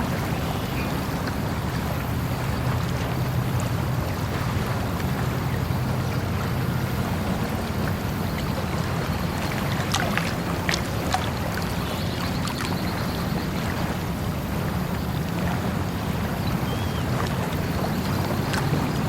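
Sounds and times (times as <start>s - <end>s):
flowing water: 0.0s - 19.0s
water splashes: 0.0s - 19.0s.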